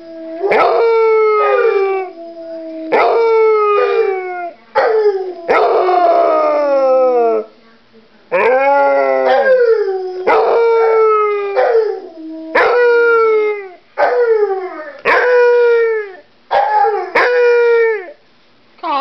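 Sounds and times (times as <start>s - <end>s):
dog howling: 0.0s - 7.5s, 8.3s - 18.2s.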